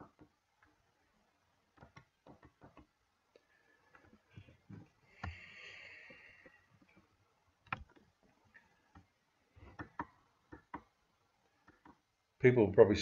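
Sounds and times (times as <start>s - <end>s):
faint irregular clicks: 0.0s - 12.2s.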